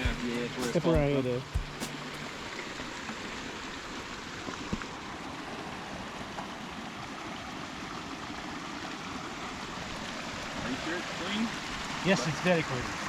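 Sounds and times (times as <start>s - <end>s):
mountain stream running: 0.0s - 13.0s.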